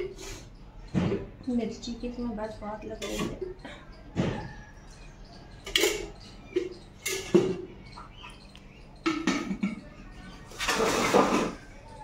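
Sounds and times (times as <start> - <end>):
utensils clinking on earthen pot: 0.0 - 12.0.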